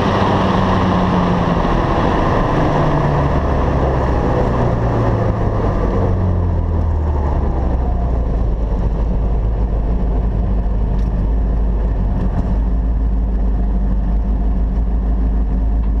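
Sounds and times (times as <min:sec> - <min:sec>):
car engine droning at low revs: 0:00.0 - 0:16.0.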